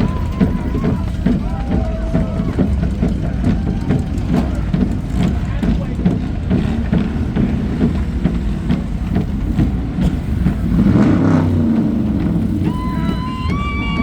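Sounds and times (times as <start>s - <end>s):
vehicle engine running and revving: 0.0s - 14.0s.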